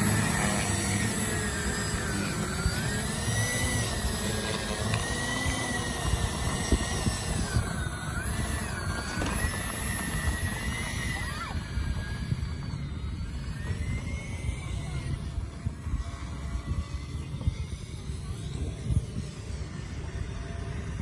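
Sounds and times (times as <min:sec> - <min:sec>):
model airplane engines whining: 0:00.0 - 0:21.0
wind rumble on microphone: 0:00.0 - 0:21.0.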